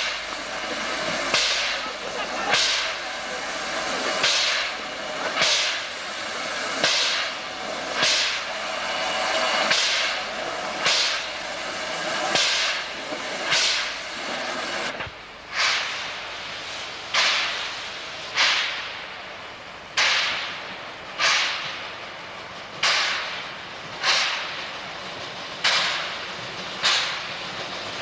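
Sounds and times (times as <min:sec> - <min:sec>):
sharp steam hiss: 0:00.0 - 0:28.0
steam locomotive chuffing: 0:00.0 - 0:28.0.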